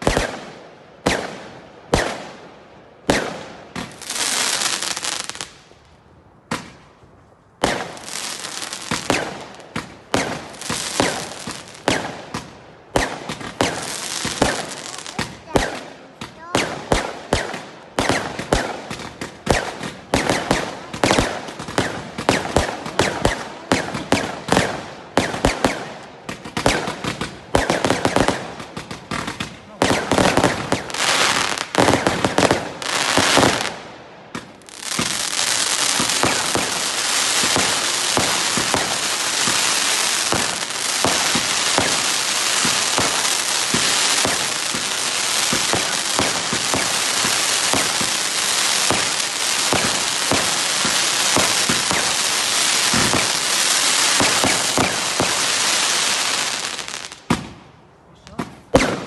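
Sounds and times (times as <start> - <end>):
fireworks banging: 0.0 - 2.4, 3.0 - 5.6, 6.5 - 6.9, 7.6 - 57.6, 58.2 - 59.0.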